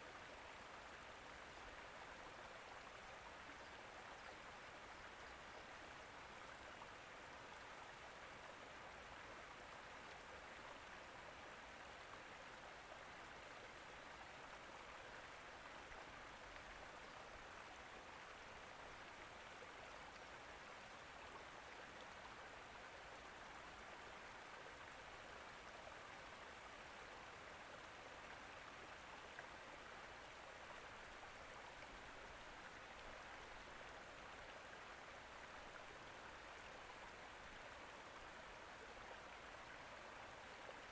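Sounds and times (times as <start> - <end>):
faint running water: 0.0 - 40.9.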